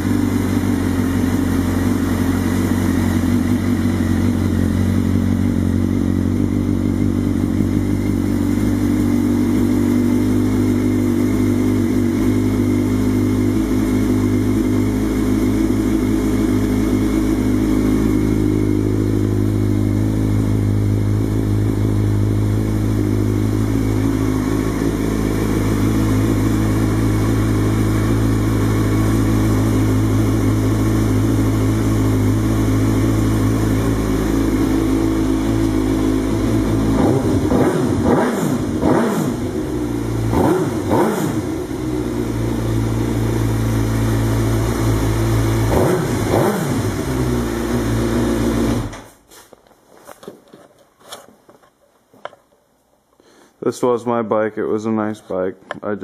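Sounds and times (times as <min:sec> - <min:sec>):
motorcycle engine idling: 0:00.0 - 0:49.2.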